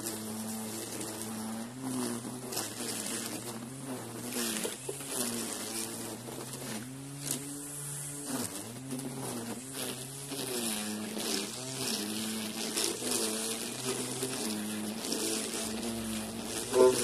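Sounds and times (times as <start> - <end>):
grass swishing as it is cut: 0.0 - 17.0
string trimmer buzzing: 0.0 - 17.0.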